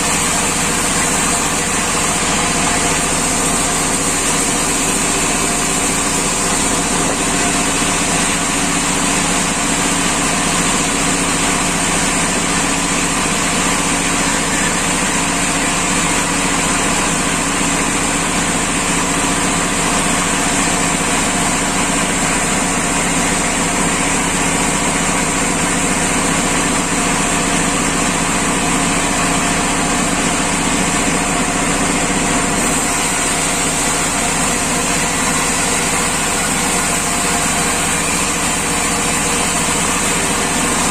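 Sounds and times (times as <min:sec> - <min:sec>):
sawmill machinery humming and whining: 0:00.0 - 0:40.9.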